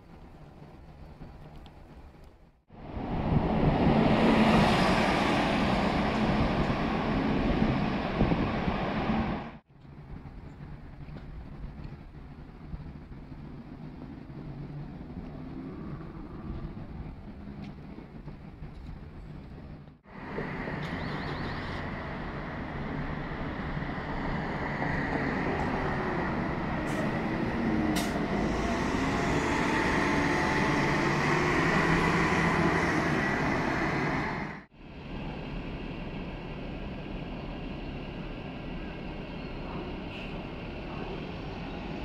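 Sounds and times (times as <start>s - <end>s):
bus passing: 0.0s - 42.0s
traffic noise: 0.0s - 42.0s.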